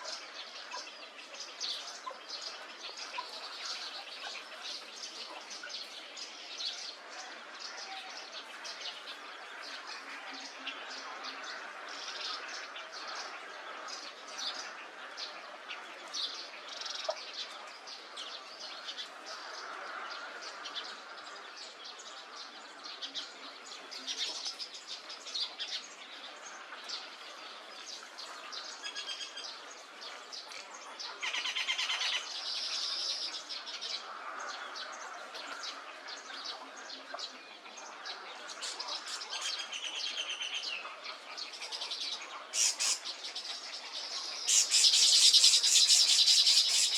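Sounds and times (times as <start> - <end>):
chorus of birds chirping: 0.0 - 46.9.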